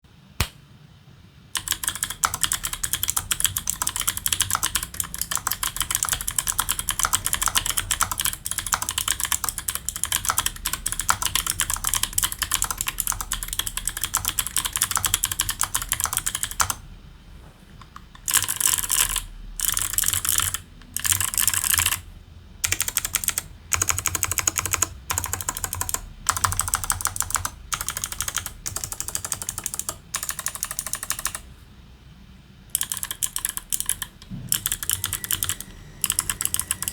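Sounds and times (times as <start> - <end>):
mechanical keyboard typing: 1.6 - 16.8, 17.8 - 31.5, 32.7 - 36.9.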